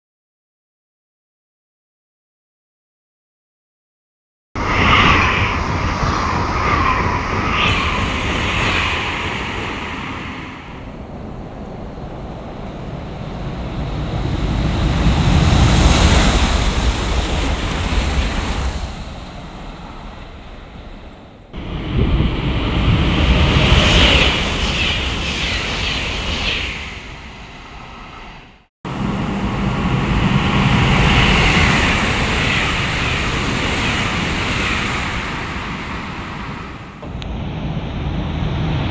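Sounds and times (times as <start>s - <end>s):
high-speed trains rushing by: 4.6s - 38.9s.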